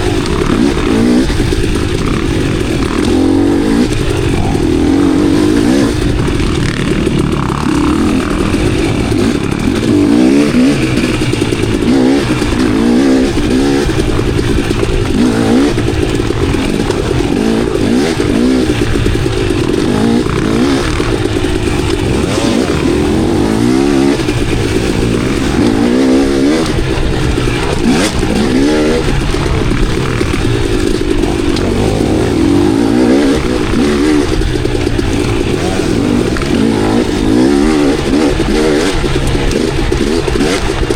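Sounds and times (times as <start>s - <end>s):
bike clattering over rough ground: 0.0s - 40.9s
dirt bike engine revving: 0.0s - 40.9s.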